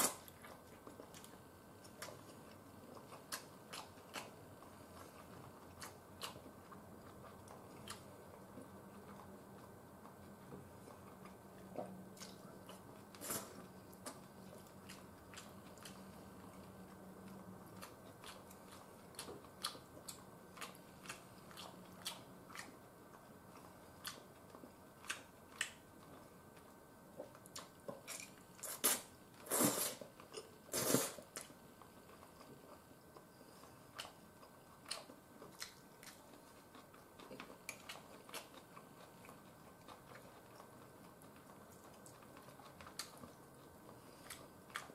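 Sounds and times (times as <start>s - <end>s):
person chewing: 0.0s - 44.9s.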